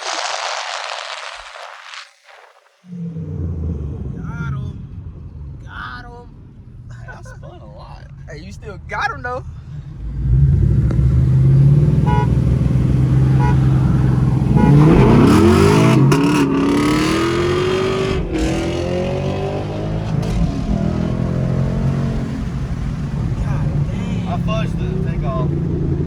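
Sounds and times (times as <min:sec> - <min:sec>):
car engine revving and accelerating: 0:02.9 - 0:07.4, 0:08.2 - 0:26.0.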